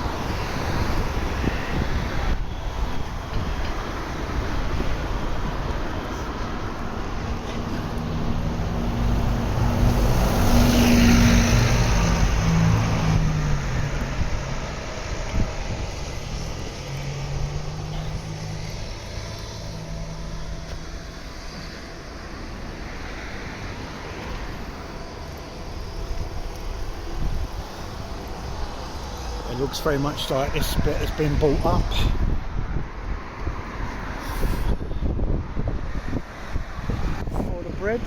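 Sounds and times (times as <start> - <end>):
steady traffic noise: 0.0 - 38.0
vehicle passing by: 3.0 - 38.0.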